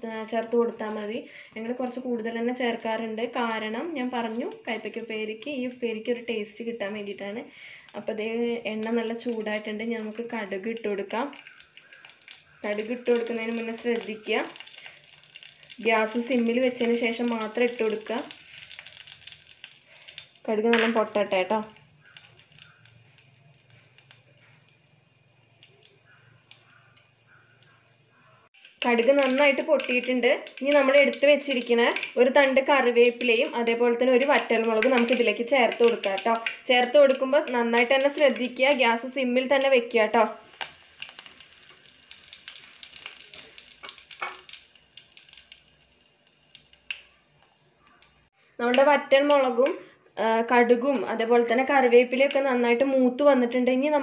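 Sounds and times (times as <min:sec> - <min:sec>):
seeds crackling and popping in oil: 0:00.2 - 0:49.8, 0:50.8 - 0:52.9.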